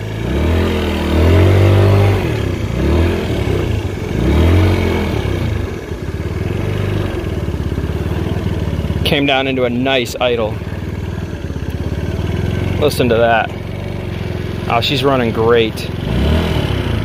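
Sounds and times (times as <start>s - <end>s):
scooter engine revving and idling: 0.0s - 17.0s.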